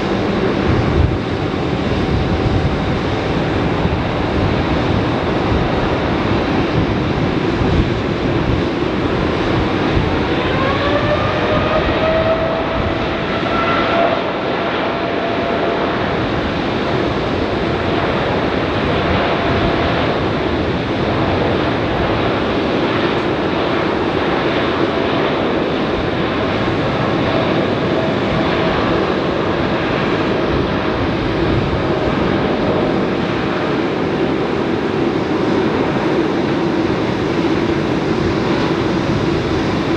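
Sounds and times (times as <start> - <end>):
jet engine whine: 0.0 - 39.9
loud jet rumble: 0.0 - 39.9.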